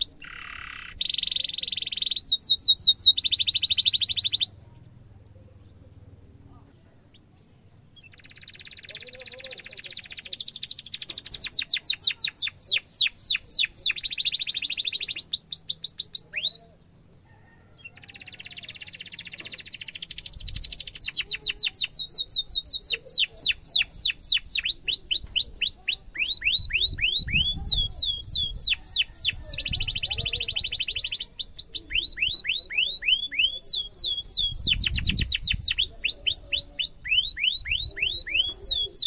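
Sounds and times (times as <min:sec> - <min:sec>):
canary singing: 0:00.0 - 0:04.6, 0:07.1 - 0:39.0.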